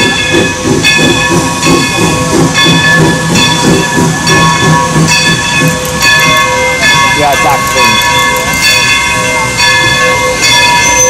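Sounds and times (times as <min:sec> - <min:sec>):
locomotive bell ringing: 0:00.0 - 0:11.0
steam hissing: 0:00.0 - 0:11.0
steam locomotive chugging: 0:00.0 - 0:11.0.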